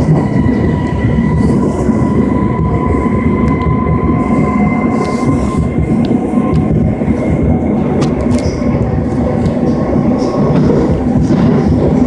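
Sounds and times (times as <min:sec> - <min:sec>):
train rumbling with high whine: 0:00.0 - 0:12.0.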